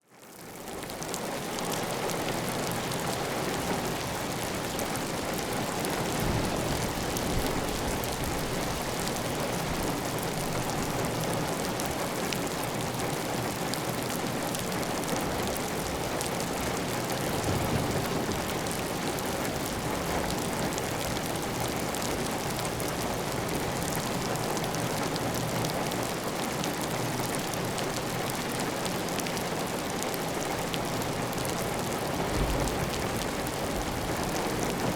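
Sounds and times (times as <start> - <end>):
rain drumming on a tile roof: 0.1 - 34.9.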